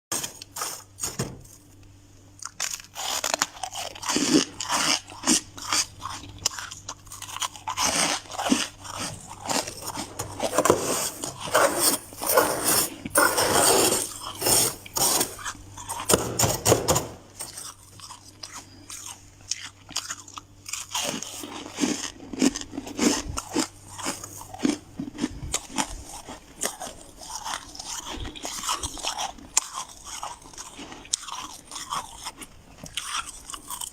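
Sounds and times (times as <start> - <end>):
crunching and chewing frost: 0.1 - 33.9.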